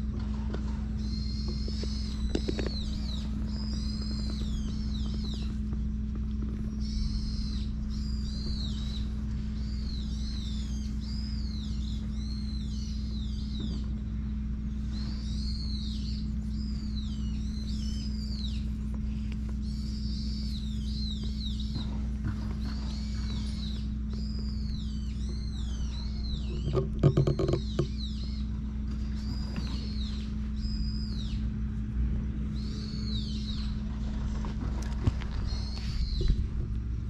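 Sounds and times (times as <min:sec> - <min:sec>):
steady low hum: 0:00.0 - 0:37.0
songbird whistling: 0:00.9 - 0:05.9, 0:06.6 - 0:31.5, 0:32.5 - 0:33.9, 0:35.1 - 0:36.5.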